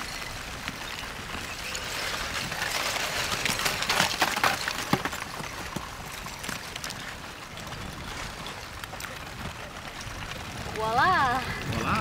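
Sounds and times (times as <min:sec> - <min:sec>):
lava blocks clinking and tumbling: 0:00.0 - 0:12.0
lava crust cracking: 0:00.0 - 0:12.0.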